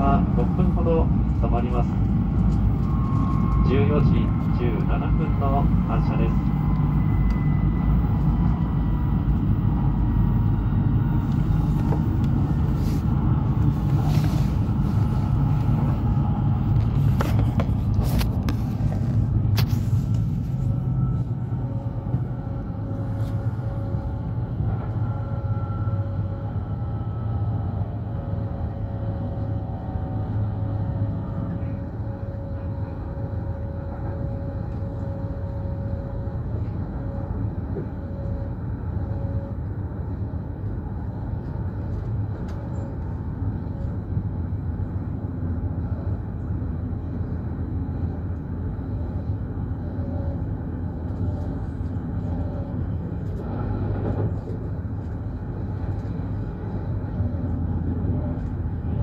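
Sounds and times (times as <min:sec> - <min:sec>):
faint whine: 0:00.0 - 0:59.0
train running rumble: 0:00.0 - 0:59.0.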